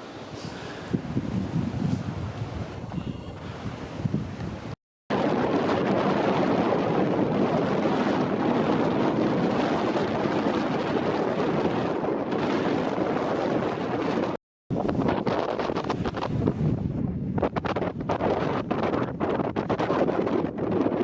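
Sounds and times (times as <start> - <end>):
strong blizzard wind: 0.0 - 21.0.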